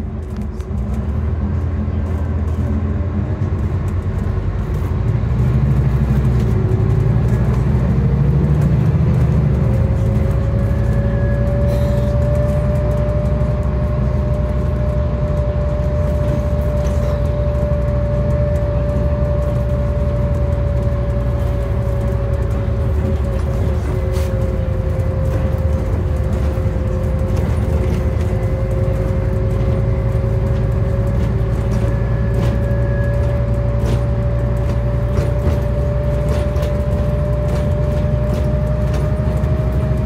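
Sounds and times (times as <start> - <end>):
bus engine drone: 0.0 - 40.0
rising whine: 3.1 - 40.0.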